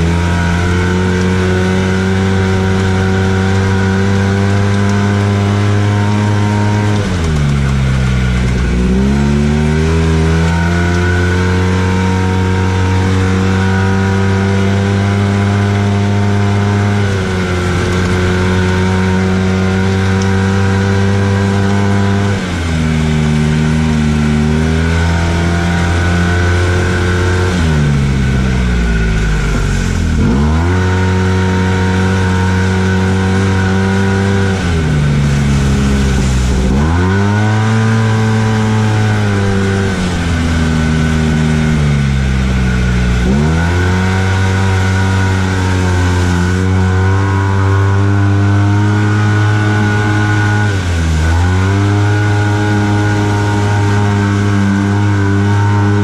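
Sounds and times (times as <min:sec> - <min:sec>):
engine revving: 0:00.0 - 0:56.0.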